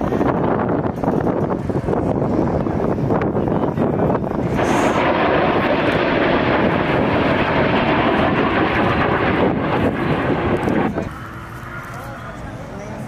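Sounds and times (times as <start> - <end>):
aircraft engine: 0.0 - 13.0.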